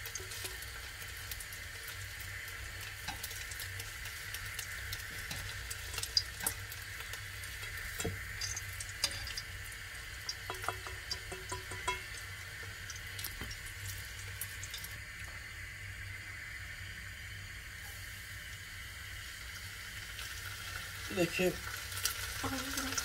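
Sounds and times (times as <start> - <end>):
cheese sizzling in hot oil: 0.0 - 23.0.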